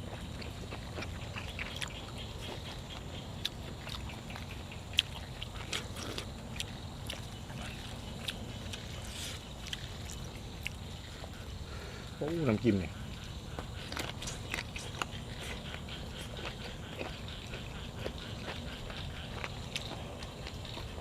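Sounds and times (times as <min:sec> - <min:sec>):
person chewing and crunching: 0:00.0 - 0:12.3, 0:13.0 - 0:21.0.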